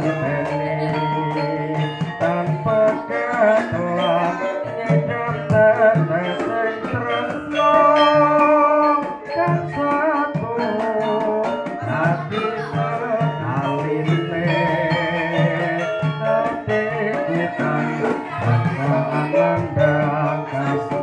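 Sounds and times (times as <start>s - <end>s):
boy singing into microphone: 0.0s - 21.0s
gamelan music: 0.0s - 21.0s
girls singing: 0.0s - 21.0s.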